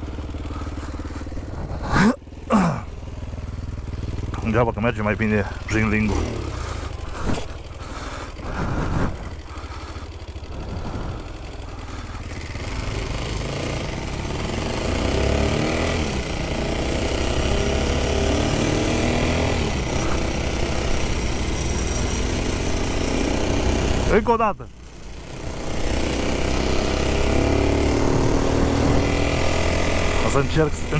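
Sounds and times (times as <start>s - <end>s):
small atv engines revving: 0.0s - 30.9s.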